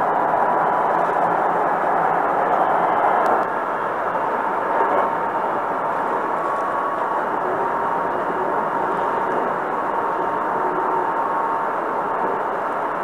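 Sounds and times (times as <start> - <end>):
faint steady whine: 0.0 - 13.0
train wheels rumbling on rail: 0.0 - 13.0.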